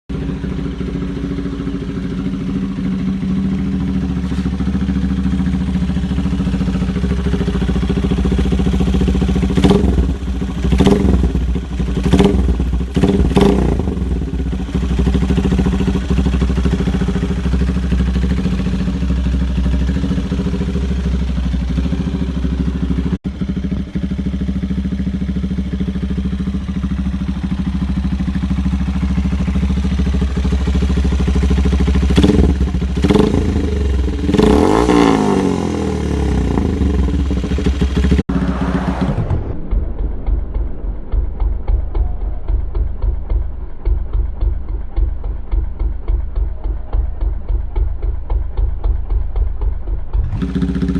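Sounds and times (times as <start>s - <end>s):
motorcycle engine idling: 0.1s - 50.9s
motorcycle engine revving: 0.1s - 50.9s.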